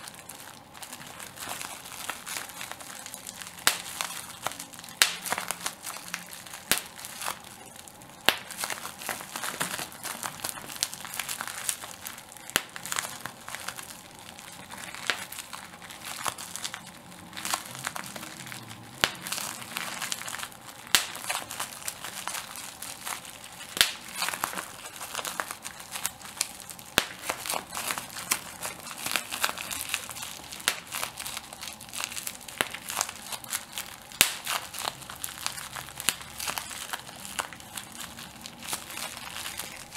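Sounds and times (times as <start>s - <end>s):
bubble wrap crinkling: 0.0s - 39.9s
bubble wrap popping: 0.0s - 39.9s.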